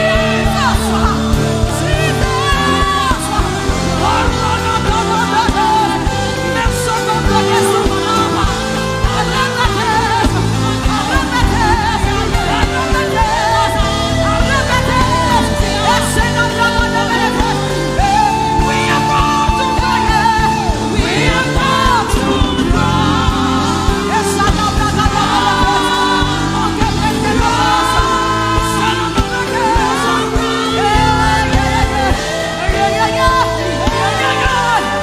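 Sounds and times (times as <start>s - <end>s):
sustained accompaniment chords: 0.0s - 35.0s.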